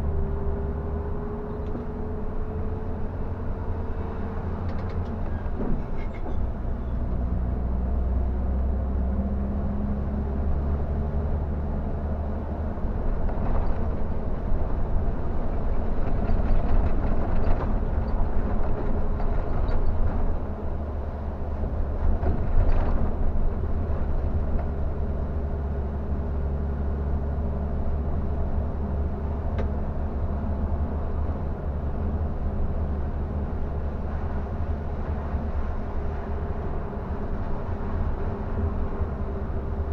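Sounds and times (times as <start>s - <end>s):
deep bus engine drone: 0.0s - 39.9s
road and tyre noise: 0.0s - 39.9s.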